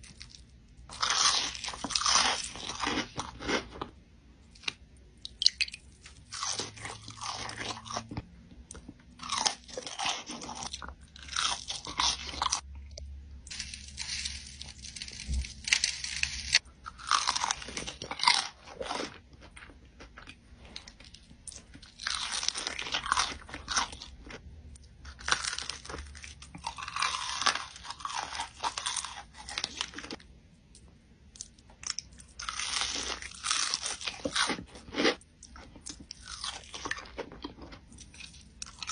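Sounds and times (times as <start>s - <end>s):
crunching fried food: 0.0s - 38.9s.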